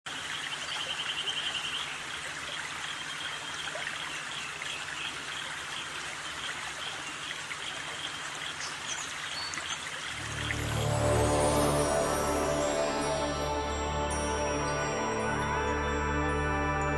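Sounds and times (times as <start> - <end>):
running water: 0.1 - 16.9.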